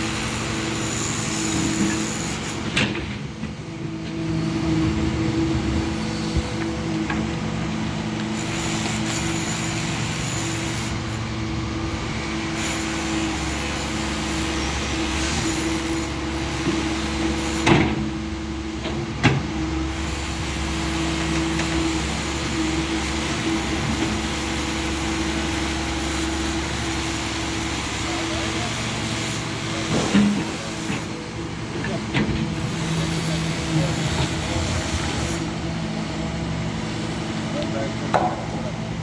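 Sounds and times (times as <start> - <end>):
diesel engine humming: 0.0 - 39.0.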